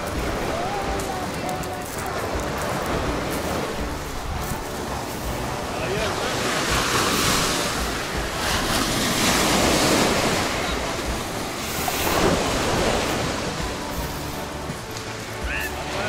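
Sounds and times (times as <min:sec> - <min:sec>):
wind buffeting microphone: 0:00.0 - 0:15.2
surf breaking on pebble shore: 0:00.0 - 0:16.0.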